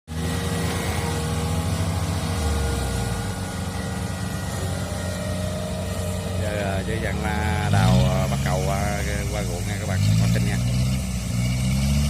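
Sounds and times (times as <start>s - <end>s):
combine harvester diesel engine: 0.1s - 12.0s.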